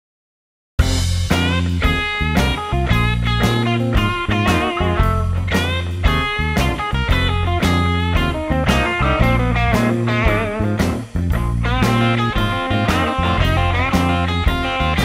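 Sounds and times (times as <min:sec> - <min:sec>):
background music with steady beat: 0:00.8 - 0:15.0
low bass line: 0:00.8 - 0:15.0.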